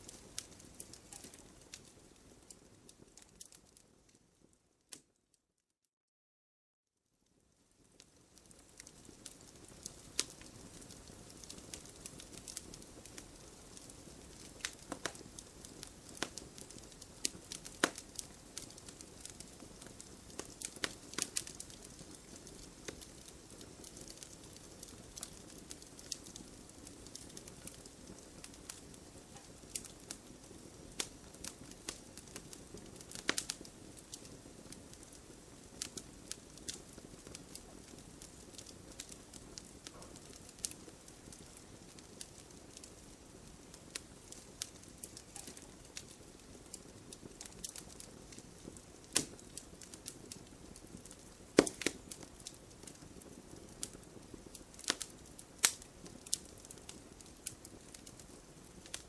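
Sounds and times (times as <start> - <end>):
wood fire crackling: 0.0 - 5.2, 7.3 - 59.0.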